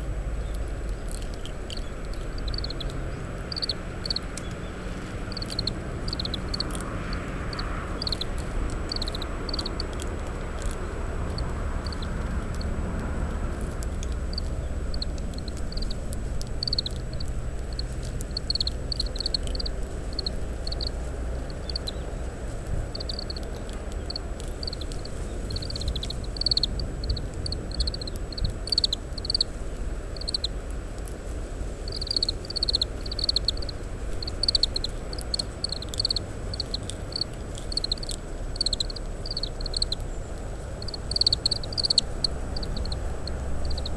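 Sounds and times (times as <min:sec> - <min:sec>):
finches chirping: 0:00.4 - 0:12.7, 0:14.2 - 0:22.2, 0:22.8 - 0:29.5, 0:30.2 - 0:30.5, 0:31.9 - 0:43.9.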